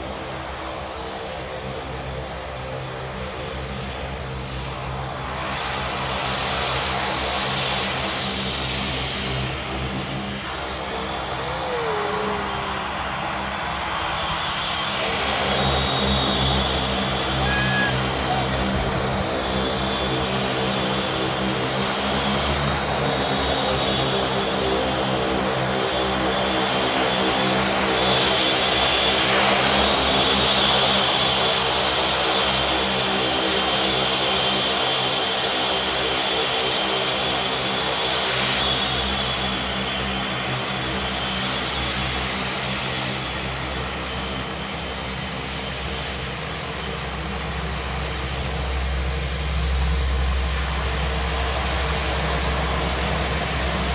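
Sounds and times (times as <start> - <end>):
turboprop engines running: 0.0 - 53.9.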